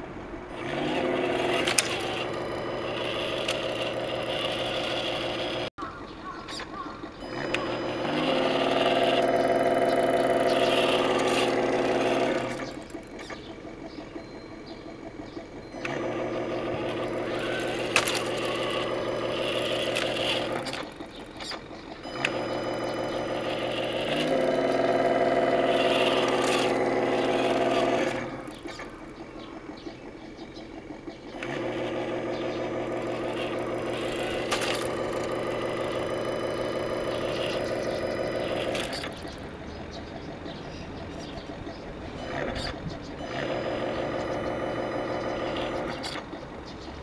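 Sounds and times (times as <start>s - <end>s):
simulated truck engine sound: 0.0s - 47.0s.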